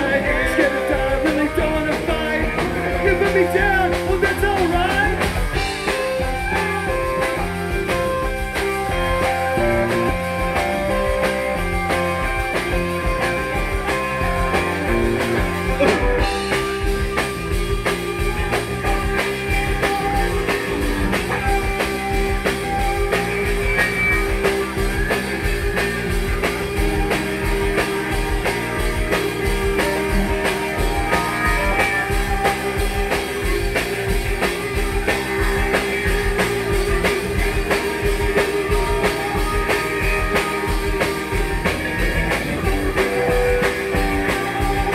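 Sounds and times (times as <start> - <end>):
drum kit beat: 0.0 - 44.9
electric guitars: 0.0 - 44.9.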